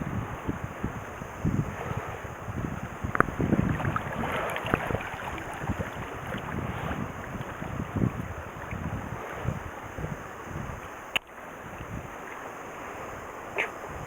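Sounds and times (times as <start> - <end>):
wind buffeting microphone: 0.0 - 11.0, 11.6 - 12.2
water rushing at shore: 0.0 - 14.0.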